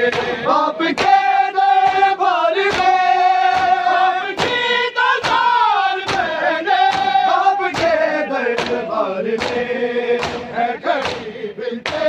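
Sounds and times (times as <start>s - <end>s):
men singing a lament: 0.0s - 12.0s
hands slapping chests: 0.1s - 12.0s.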